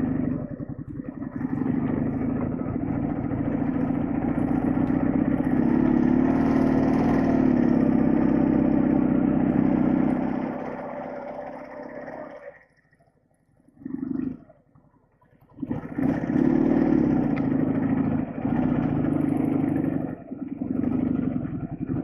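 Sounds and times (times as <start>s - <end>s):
motorcycle engine running: 0.0s - 12.6s, 15.5s - 22.0s.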